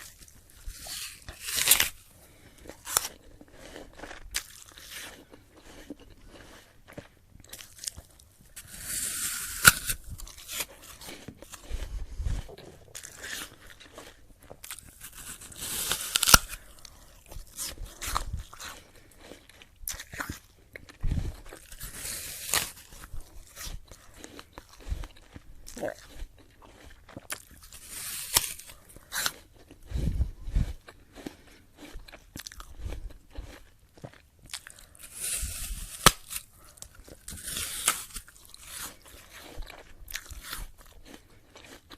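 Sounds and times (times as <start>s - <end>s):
crisp apple bites: 0.0s - 29.9s, 30.5s - 41.9s
wet crunching chewing: 0.0s - 41.9s.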